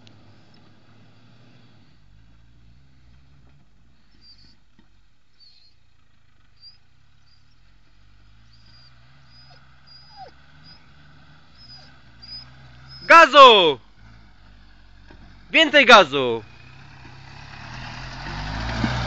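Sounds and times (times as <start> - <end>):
distant car engine running: 0.0 - 19.0.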